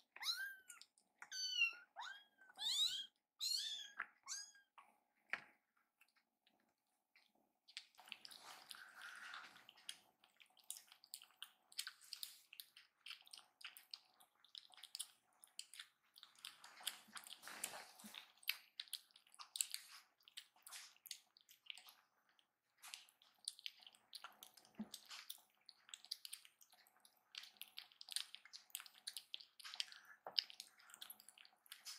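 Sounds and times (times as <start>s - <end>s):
kittens chewing wet food: 0.0s - 3.3s, 3.9s - 31.9s.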